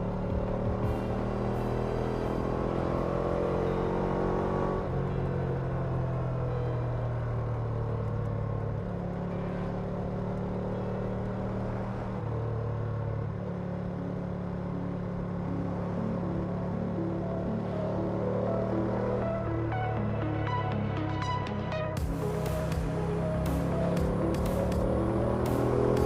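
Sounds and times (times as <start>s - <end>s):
ambient background music: 0.0s - 26.0s
motorcycle engine: 0.0s - 26.0s.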